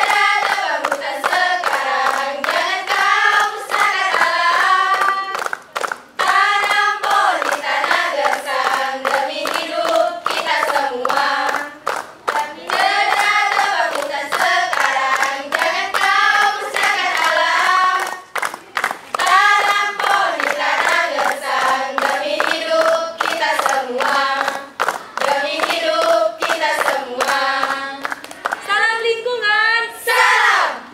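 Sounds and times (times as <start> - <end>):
hands clapping: 0.0 - 28.7
girls singing in unison: 0.0 - 28.8, 29.9 - 30.9.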